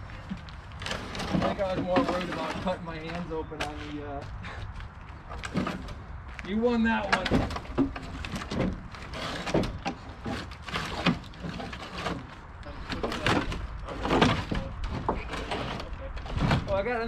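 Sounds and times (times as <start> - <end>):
engine knocking and scraping on plywood: 0.0 - 17.0.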